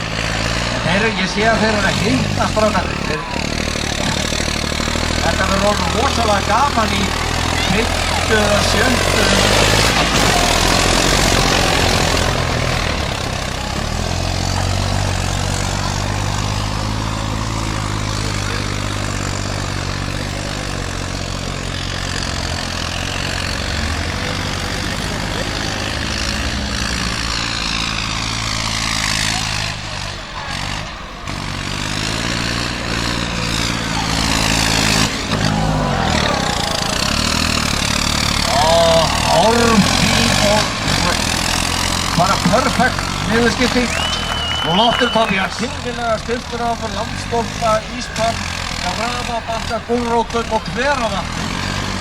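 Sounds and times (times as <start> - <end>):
tractor engine running under load: 0.0 - 52.0.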